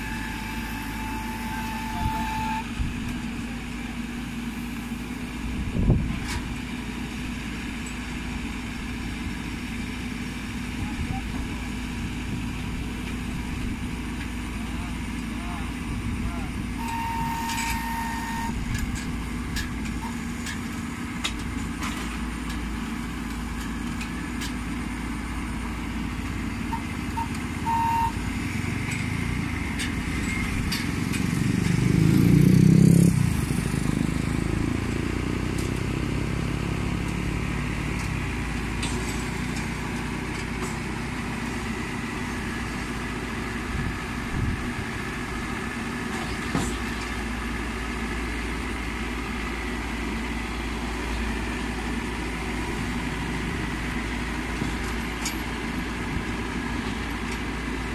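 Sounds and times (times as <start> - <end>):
harvester engine running: 0.0 - 57.9.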